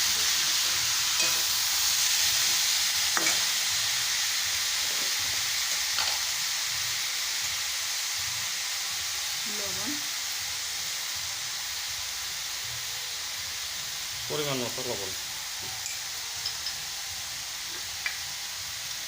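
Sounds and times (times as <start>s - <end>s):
curry sizzling in hot oil: 0.0s - 19.0s.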